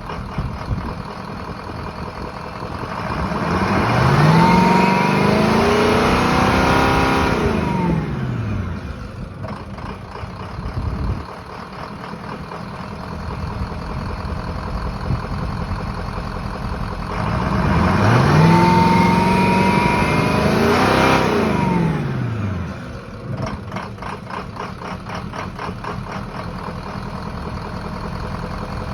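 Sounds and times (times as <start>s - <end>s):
car engine revving and idling: 0.0s - 28.9s.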